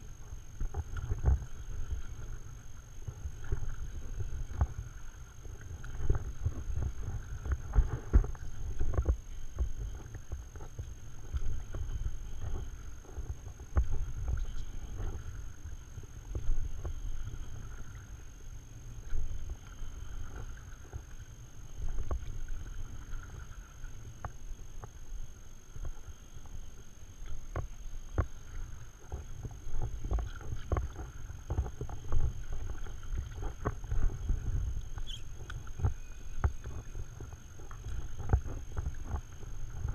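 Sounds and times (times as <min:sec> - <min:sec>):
paddle strokes in water: 0:00.0 - 0:39.9
water lapping at a board: 0:00.0 - 0:39.9
wind rumble on microphone: 0:00.0 - 0:39.9.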